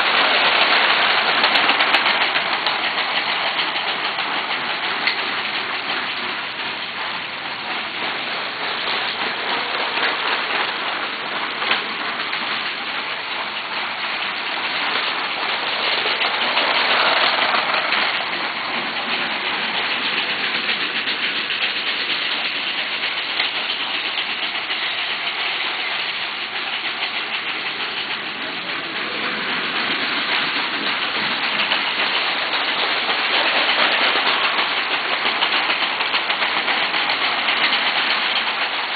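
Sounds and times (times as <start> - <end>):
toy train motors and wheels: 0.0 - 38.9.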